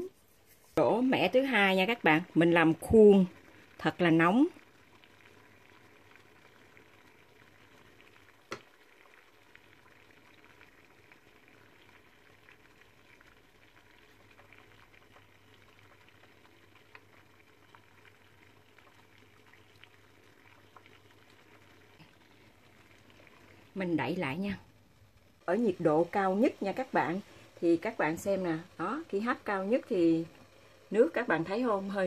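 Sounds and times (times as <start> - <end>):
water simmering hiss: 0.0 - 32.0.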